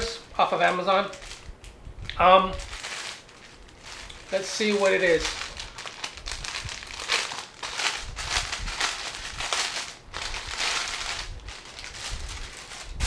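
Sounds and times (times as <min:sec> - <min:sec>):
plastic bag crinkling: 0:00.0 - 0:01.8, 0:02.4 - 0:13.0.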